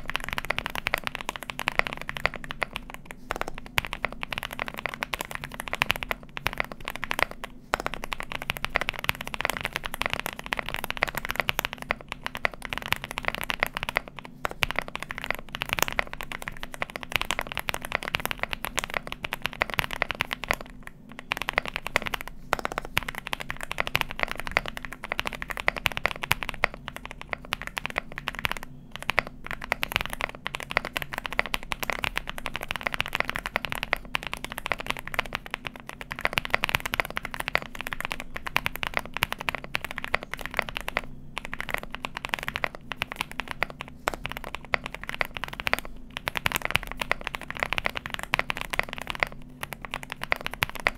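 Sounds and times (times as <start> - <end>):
mechanical keyboard typing: 0.0 - 50.9.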